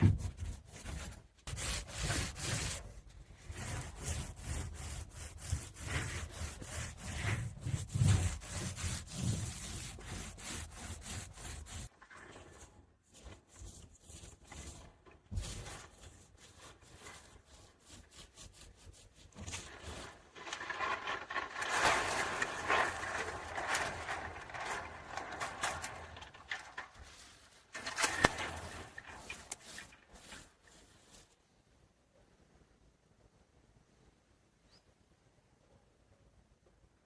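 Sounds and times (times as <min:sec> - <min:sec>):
rubbing and scraping on wood: 0:00.0 - 0:31.6.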